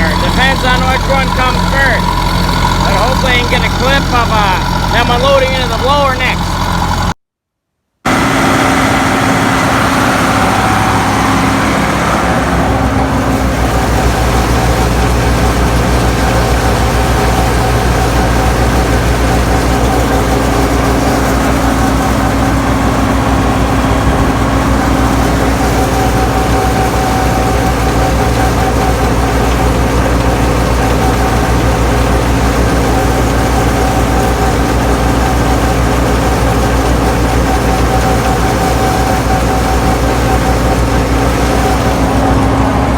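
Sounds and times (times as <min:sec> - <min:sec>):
tractor diesel engine under load: 0:00.0 - 0:07.2, 0:08.0 - 0:42.9.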